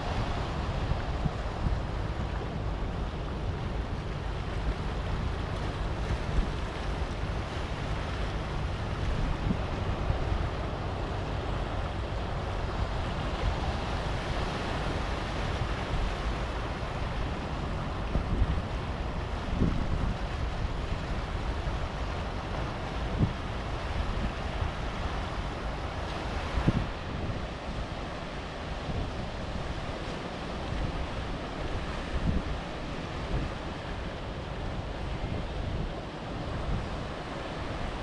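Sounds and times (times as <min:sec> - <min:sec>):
wind buffeting microphone: 0:00.0 - 0:14.6, 0:15.2 - 0:38.0
waves breaking on rocky shore: 0:00.0 - 0:38.0.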